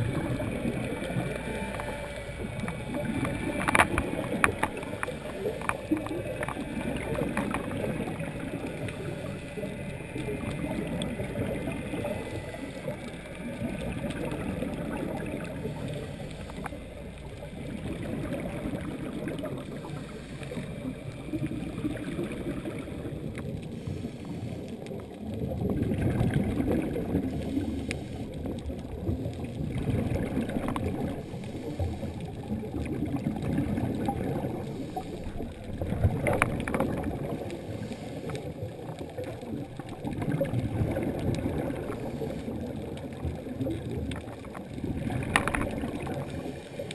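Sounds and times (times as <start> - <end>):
underwater regulator bubbles: 0.0 - 46.9.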